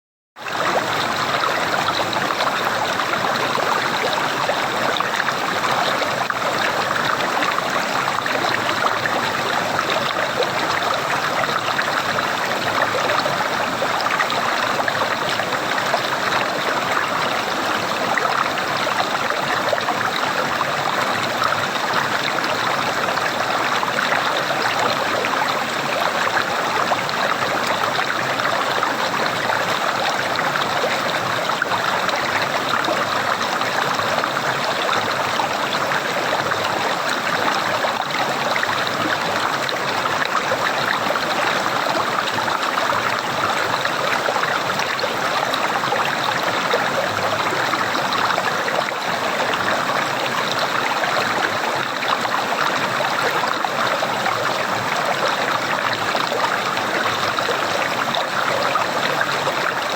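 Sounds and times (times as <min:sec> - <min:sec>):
stream gurgling and trickling: 0:00.4 - 0:59.9.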